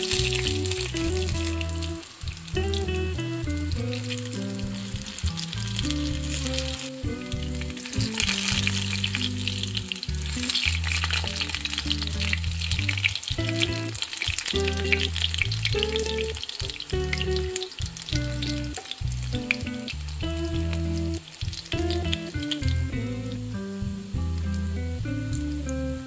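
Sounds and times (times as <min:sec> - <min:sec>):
patties sizzling in hot oil: 0:00.0 - 0:26.0.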